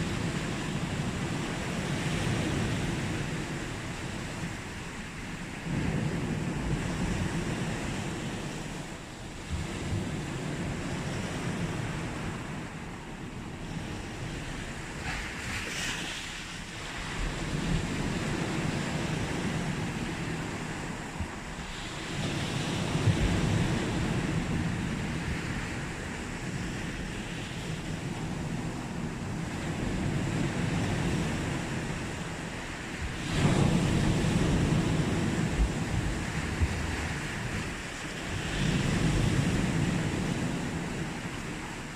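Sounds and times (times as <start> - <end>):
sea waves breaking on beach: 0.0 - 41.9.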